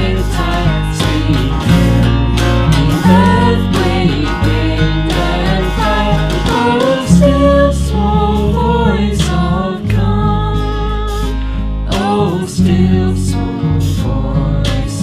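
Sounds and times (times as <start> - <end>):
acoustic guitar: 0.0 - 15.0
sustained bass notes: 0.0 - 15.0.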